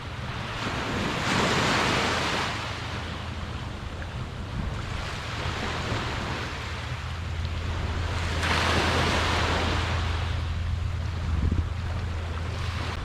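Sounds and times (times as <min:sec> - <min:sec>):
surf washing onto beach: 0:00.0 - 0:13.0
wind rumbling on microphone: 0:00.0 - 0:13.0.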